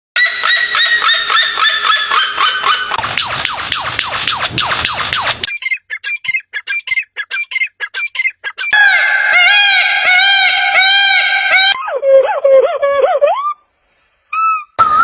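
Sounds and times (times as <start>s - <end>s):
bird calls rising and falling: 0.2s - 13.6s.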